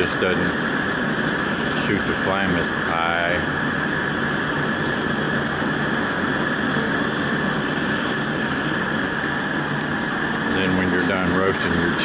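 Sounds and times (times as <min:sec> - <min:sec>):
gas burner flame rushing: 0:00.0 - 0:12.0.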